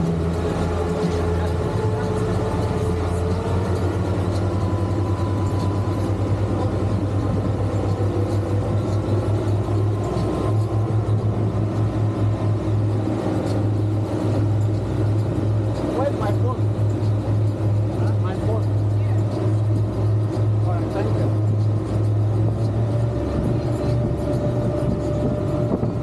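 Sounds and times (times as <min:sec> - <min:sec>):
churning wake rushing: 0:00.0 - 0:26.0
outboard motors humming: 0:00.0 - 0:26.0.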